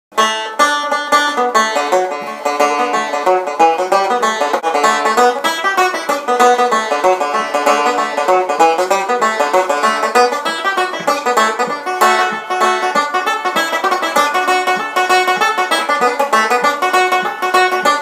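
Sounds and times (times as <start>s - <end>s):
banjo picking a lively tune: 0.1s - 18.0s.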